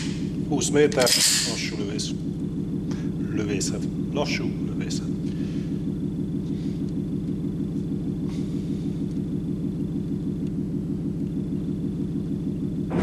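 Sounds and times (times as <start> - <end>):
faint high whine: 0.0 - 13.0
low background rumble: 0.0 - 13.0.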